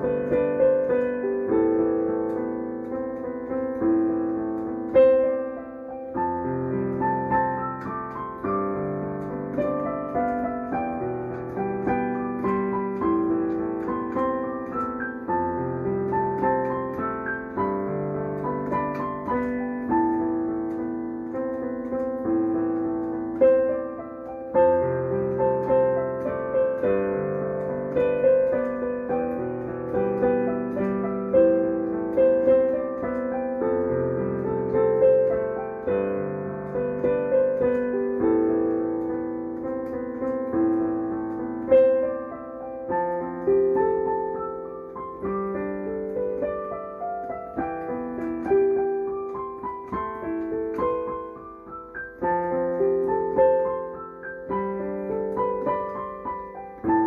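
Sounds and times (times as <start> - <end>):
digital piano playing: 0.0 - 57.0.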